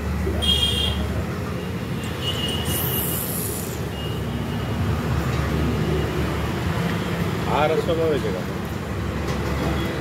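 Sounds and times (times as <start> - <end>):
rumble of passing vehicles: 0.0 - 10.0.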